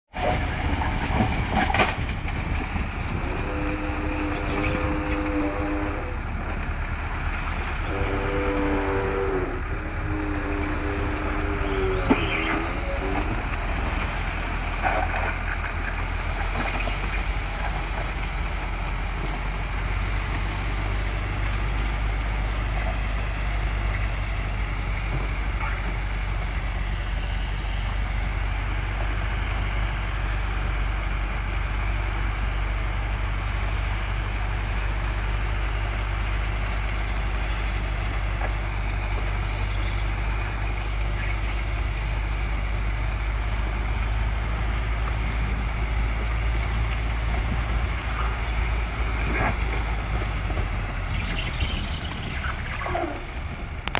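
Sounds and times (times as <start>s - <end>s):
diesel engine running under load: 0.1s - 53.9s.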